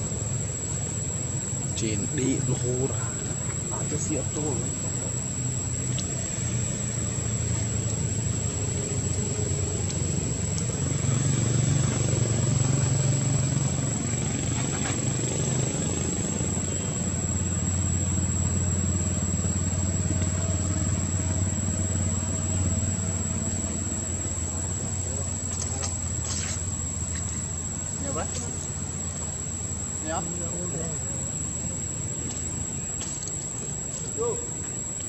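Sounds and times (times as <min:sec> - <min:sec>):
motor engine running: 0:00.0 - 0:35.0.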